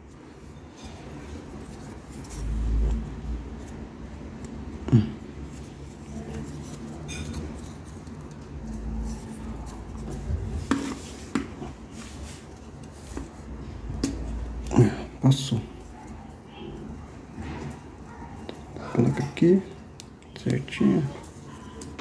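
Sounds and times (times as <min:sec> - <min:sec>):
rubber rubbing and handling: 0:00.0 - 0:22.0.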